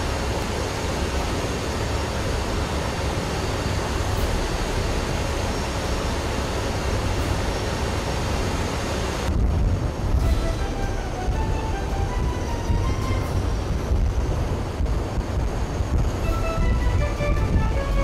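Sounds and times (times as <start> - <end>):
aircraft engines rumbling in flight: 0.0 - 18.0.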